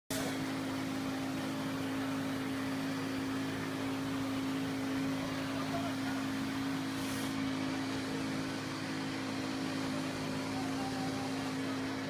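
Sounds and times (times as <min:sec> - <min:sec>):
bus engine idling: 0:00.1 - 0:12.0.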